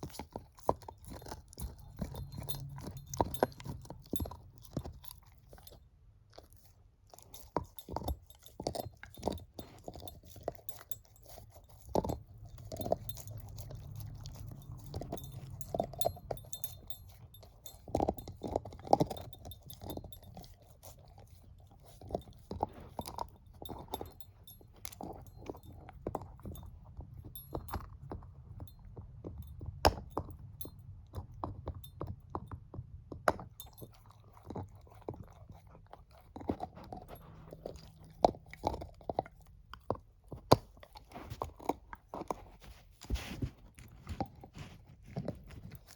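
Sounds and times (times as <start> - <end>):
dog chewing a bone: 0.0 - 45.9.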